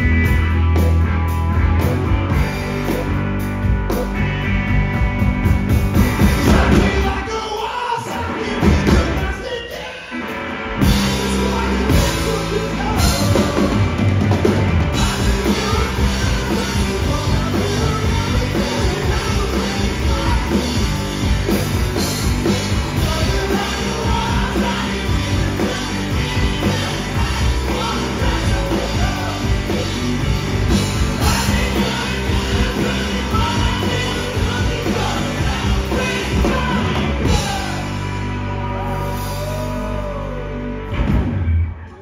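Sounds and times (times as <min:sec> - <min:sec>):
drum kit: 0:00.0 - 0:41.7
bass guitar: 0:00.0 - 0:42.0
electric guitar: 0:00.0 - 0:42.0.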